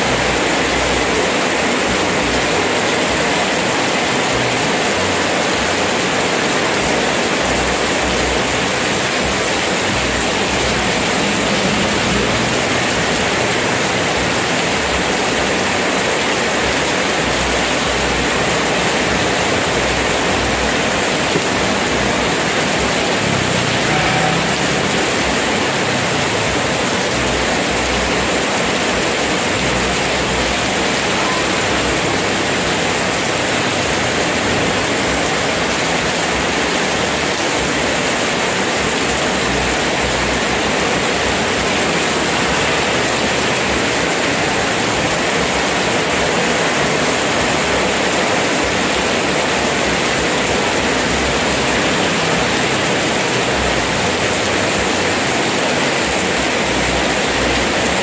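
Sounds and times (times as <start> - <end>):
heavy rain on pavement: 0.0 - 58.0.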